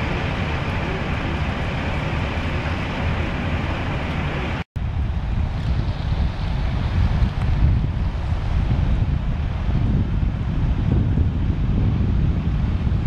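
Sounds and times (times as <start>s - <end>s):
vehicle engine rumble: 0.0s - 13.0s
wind buffeting microphone: 0.0s - 13.0s.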